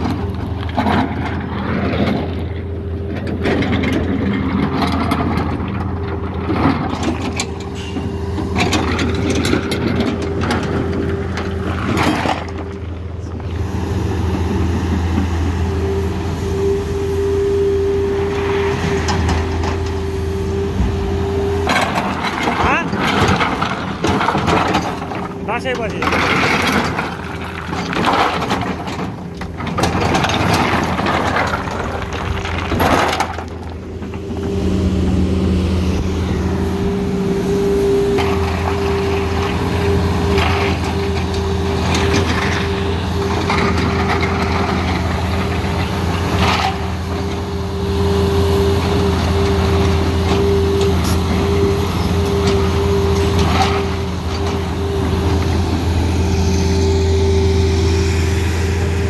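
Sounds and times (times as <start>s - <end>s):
excavator bucket scraping stones: 0.0s - 15.8s, 18.2s - 59.0s
diesel engine humming: 0.0s - 59.0s.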